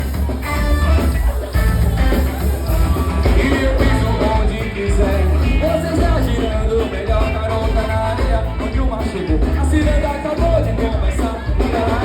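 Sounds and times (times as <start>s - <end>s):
band playing with singing: 0.0s - 12.0s
strong bass: 0.0s - 12.0s.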